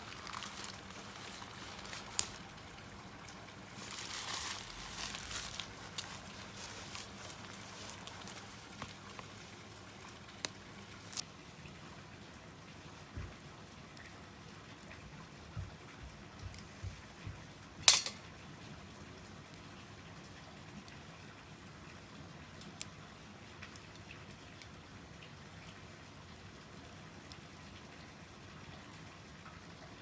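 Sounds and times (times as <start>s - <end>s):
wood fire hissing and crackling: 0.0s - 30.0s.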